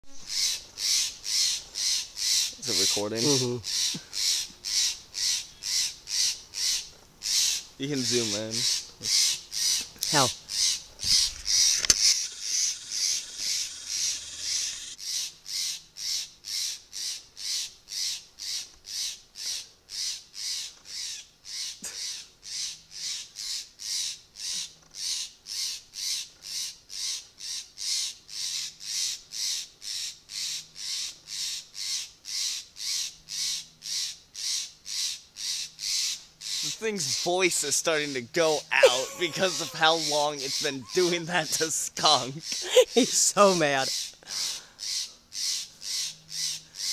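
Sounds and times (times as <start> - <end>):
bird harsh alarm calls: 0.1 - 46.9.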